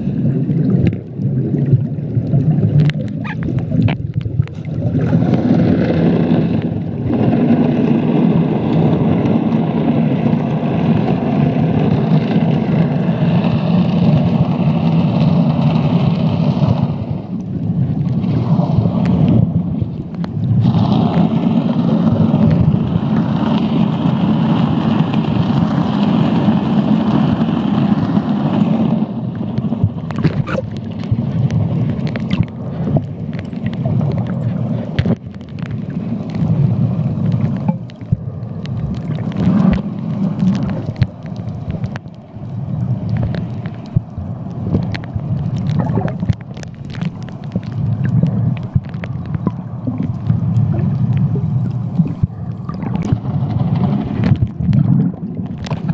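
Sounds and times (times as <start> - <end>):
regulator breathing and bubbles: 0.0 - 55.9.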